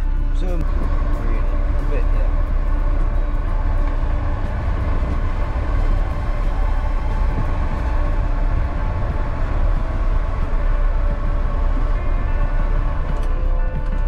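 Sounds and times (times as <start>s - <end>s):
car engine drone inside cab: 0.0s - 14.0s.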